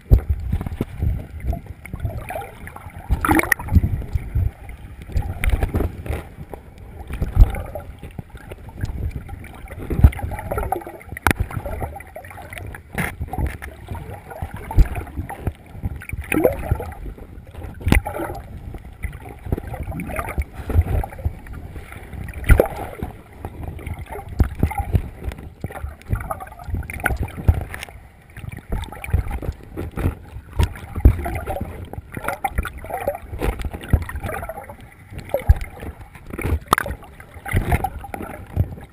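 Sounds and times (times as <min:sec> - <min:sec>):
muffled underwater sloshing: 0:00.0 - 0:38.9
underwater thumps: 0:00.0 - 0:38.9.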